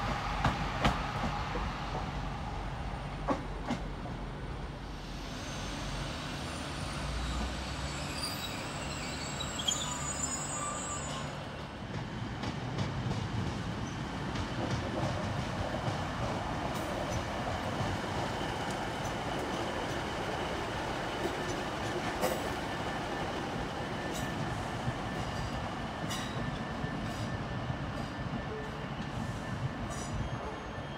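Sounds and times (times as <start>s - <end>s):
train wheels on rails: 0.0s - 30.9s.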